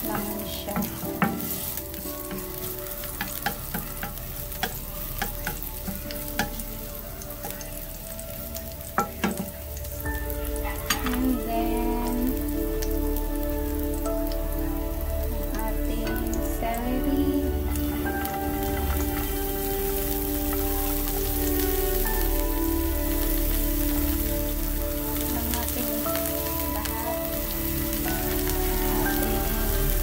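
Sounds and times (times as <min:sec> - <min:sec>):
ginger sizzling in oil: 0:00.0 - 0:30.0
soft background music: 0:00.0 - 0:30.0.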